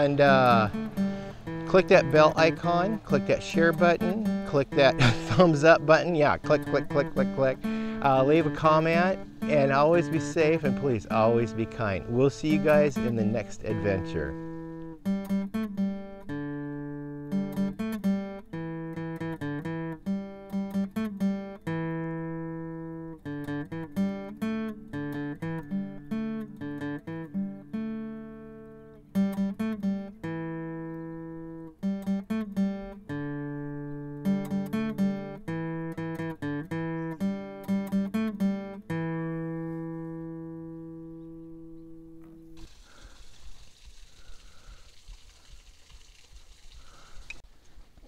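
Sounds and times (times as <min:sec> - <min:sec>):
acoustic guitar music: 0:00.0 - 0:43.4.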